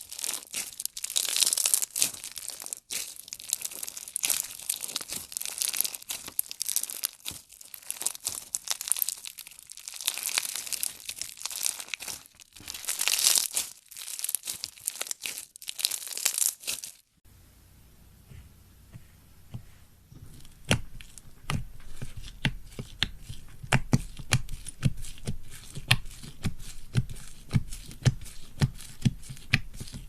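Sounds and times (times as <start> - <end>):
slime crackling and popping: 0.0 - 17.1, 20.4 - 30.0.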